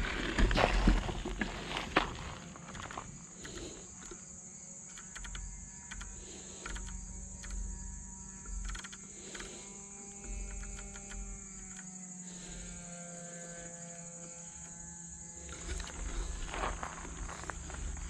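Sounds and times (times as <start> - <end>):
faint low hum: 0.0 - 18.0
insects trilling: 0.0 - 18.0.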